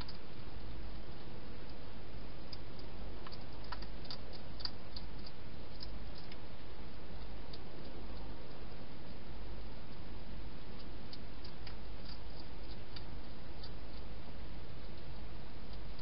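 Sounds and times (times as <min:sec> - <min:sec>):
hedgehog eating crunches: 0:00.0 - 0:16.0.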